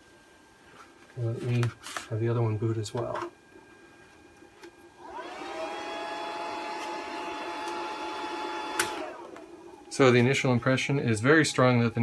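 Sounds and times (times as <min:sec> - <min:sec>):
cooling fans whining: 0:00.0 - 0:12.0.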